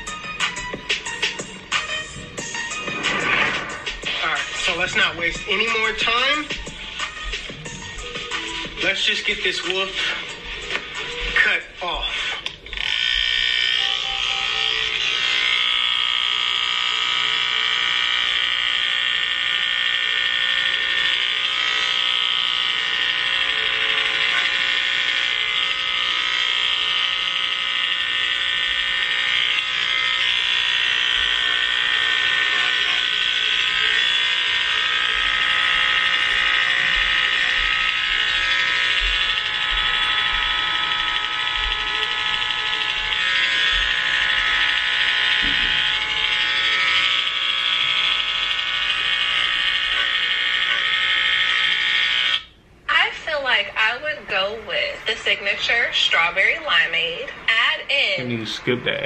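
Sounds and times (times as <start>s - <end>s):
electric hair clippers buzzing: 0.0s - 58.2s.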